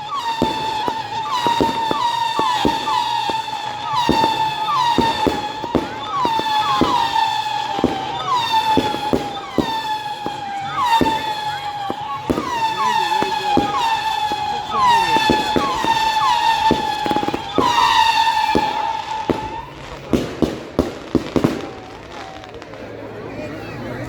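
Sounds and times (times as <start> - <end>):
fireworks cracks and bangs: 0.0 - 23.7
fireworks whistling: 0.0 - 23.8.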